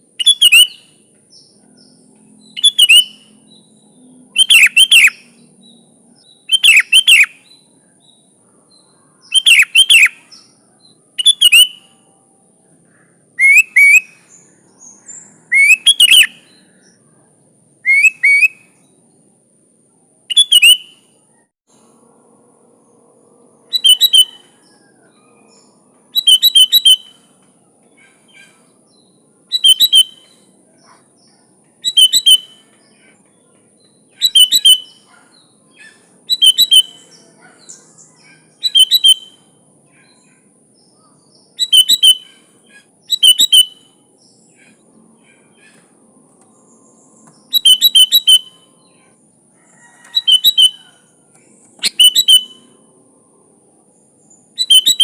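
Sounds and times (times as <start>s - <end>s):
bird chirping: 0.1s - 19.4s, 20.3s - 21.9s, 22.8s - 53.0s, 53.8s - 55.0s.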